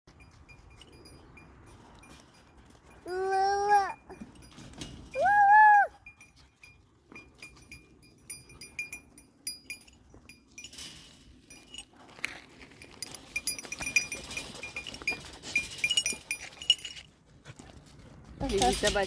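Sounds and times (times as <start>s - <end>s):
livestock bells clinking: 0.1s - 17.2s, 18.4s - 19.0s.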